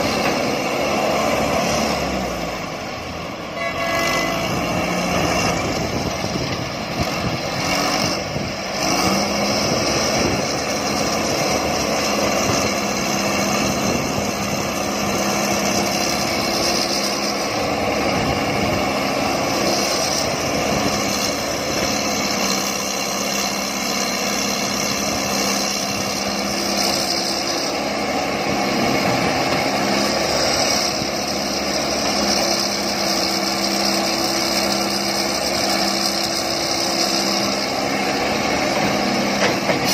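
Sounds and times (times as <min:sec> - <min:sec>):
excavator diesel engine running: 0:00.0 - 0:39.9
other excavators working: 0:00.0 - 0:39.9.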